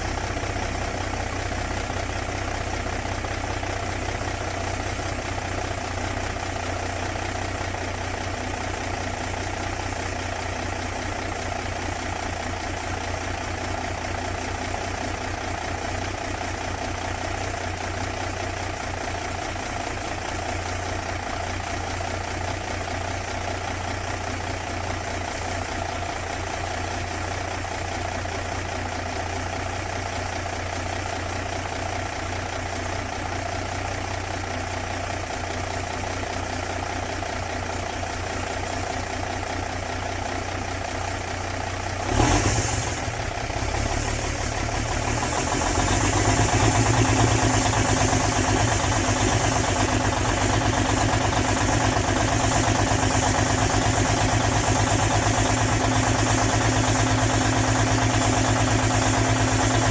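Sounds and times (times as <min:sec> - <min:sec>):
truck diesel engine idling: 0:00.0 - 0:59.9.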